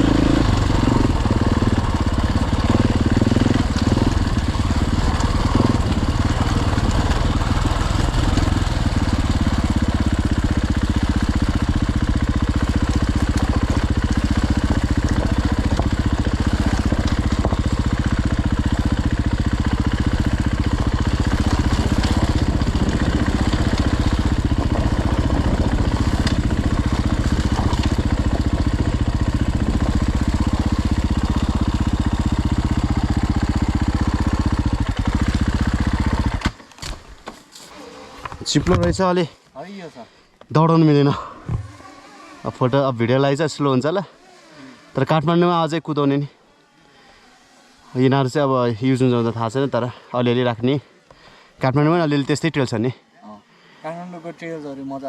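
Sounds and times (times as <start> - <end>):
dirt bike engine idling: 0.0 - 55.0.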